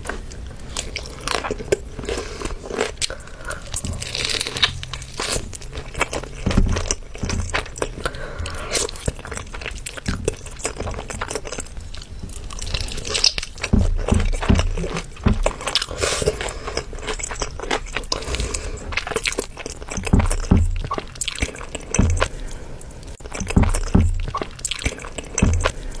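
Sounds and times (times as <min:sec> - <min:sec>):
crunchy bites and chewing: 0:00.0 - 0:26.0.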